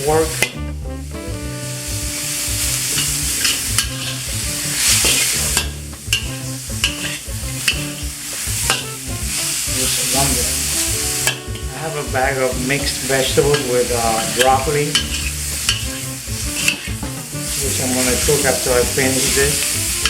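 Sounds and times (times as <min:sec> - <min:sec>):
food sizzling in a wok: 0:00.0 - 0:20.0
spatula scraping a wok: 0:01.7 - 0:11.4, 0:12.7 - 0:20.0.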